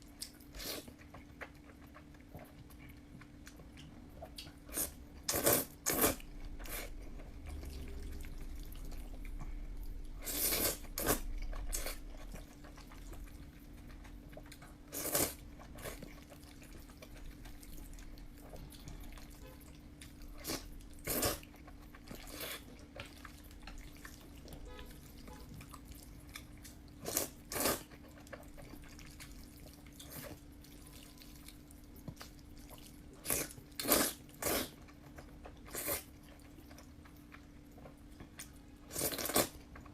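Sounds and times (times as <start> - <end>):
faint steady hum: 0.0 - 39.9
slurping and chewing noodles: 0.2 - 39.9.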